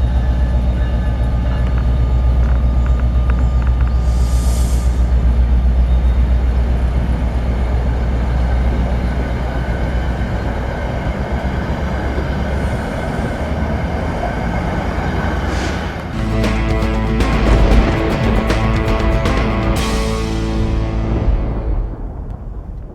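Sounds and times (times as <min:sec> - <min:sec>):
train engine rumble: 0:00.0 - 0:22.9.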